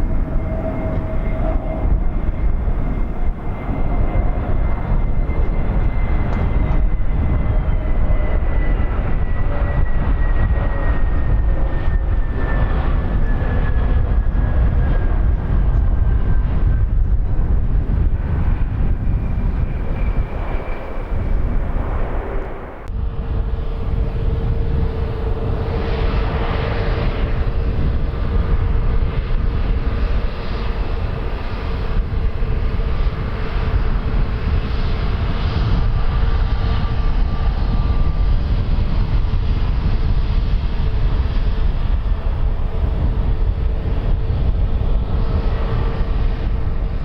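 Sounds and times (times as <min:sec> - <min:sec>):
jet engines with high whine: 0:00.0 - 0:47.0.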